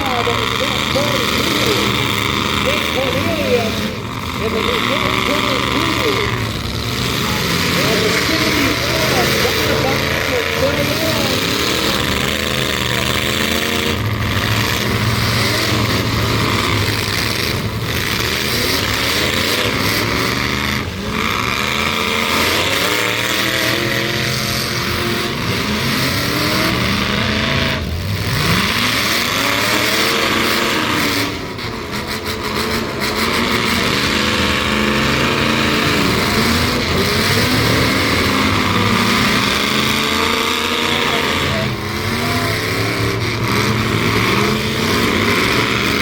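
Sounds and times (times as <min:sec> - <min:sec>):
truck engines revving: 0:00.0 - 0:46.0.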